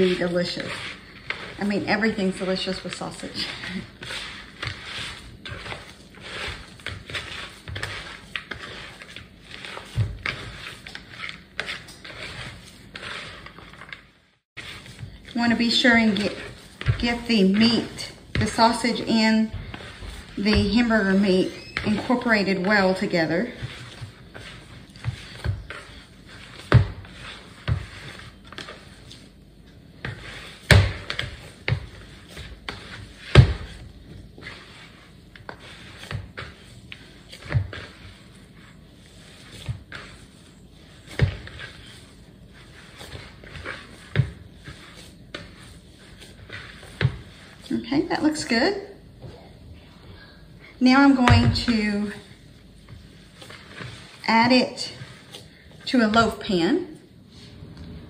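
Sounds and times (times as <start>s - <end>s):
hands kneading meat in bowl: 0.0s - 48.9s, 50.8s - 56.6s.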